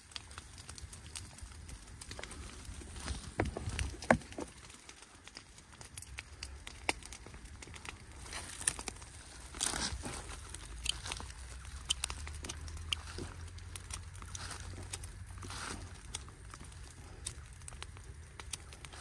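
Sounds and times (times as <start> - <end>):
dry crop residue crackling: 0.0 - 19.0.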